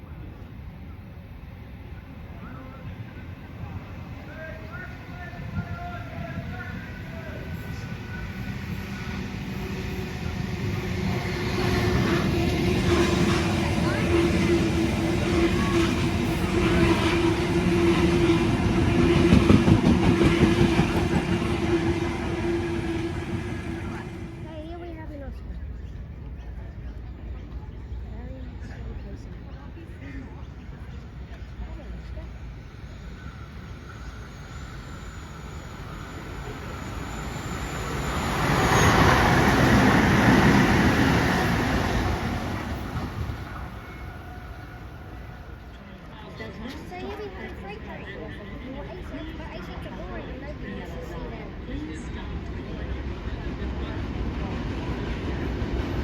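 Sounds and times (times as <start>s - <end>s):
train hum: 0.0s - 56.0s.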